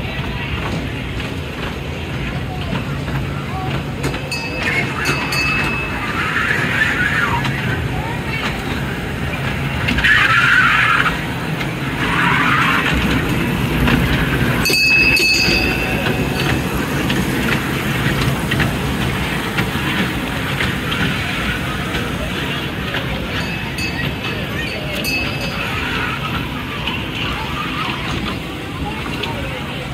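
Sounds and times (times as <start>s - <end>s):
kiddie train ride humming: 0.0s - 29.9s
people's voices: 0.0s - 29.9s.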